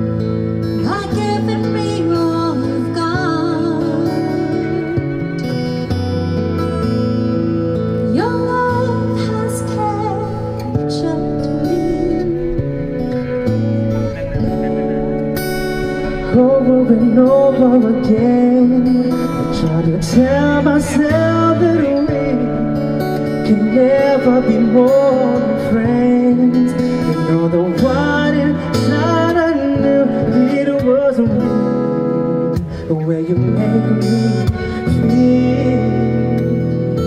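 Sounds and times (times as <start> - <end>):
acoustic guitar: 0.0 - 37.0
violin: 0.0 - 37.0
person singing: 0.7 - 5.9, 8.0 - 37.0.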